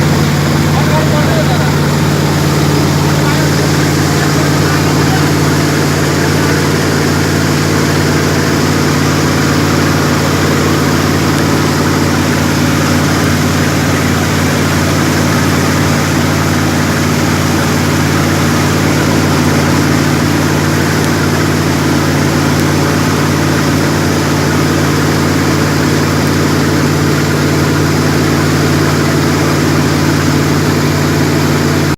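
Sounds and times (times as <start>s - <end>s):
broad rushing noise: 0.0s - 31.9s
jet boat engine running: 0.0s - 31.9s.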